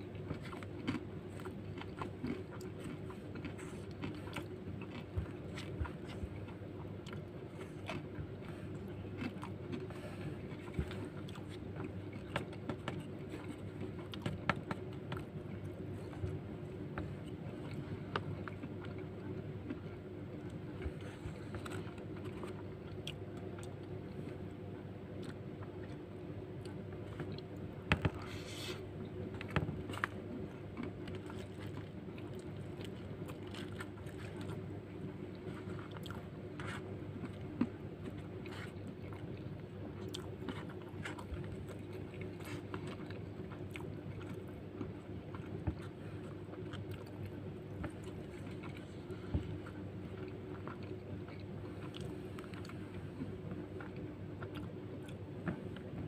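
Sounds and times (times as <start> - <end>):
steady low hum: 0.0 - 56.0
chewing: 0.1 - 56.0.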